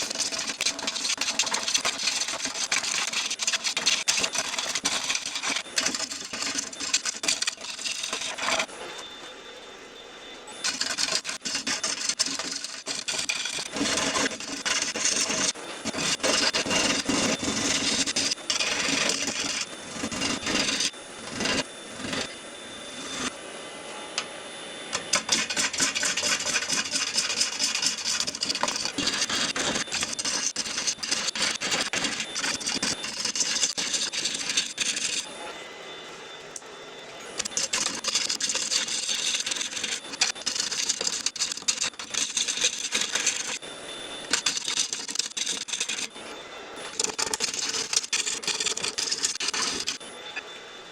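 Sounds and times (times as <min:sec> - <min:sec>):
tool rasping on turning wood: 0:00.0 - 0:09.0, 0:10.5 - 0:23.3, 0:24.9 - 0:35.5, 0:37.4 - 0:50.1
lathe whine: 0:00.0 - 0:50.9.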